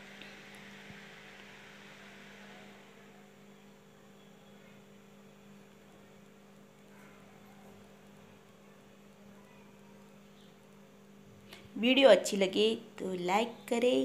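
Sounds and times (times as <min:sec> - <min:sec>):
light hiss: 0:00.0 - 0:11.9
faint mains hum: 0:00.0 - 0:14.0.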